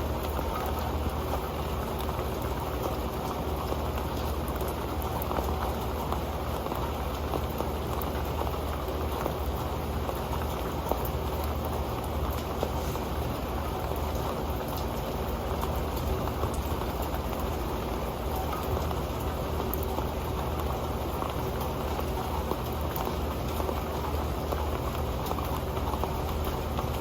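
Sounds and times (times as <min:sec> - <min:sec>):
rain pattering on a pan: 0:00.0 - 0:27.0.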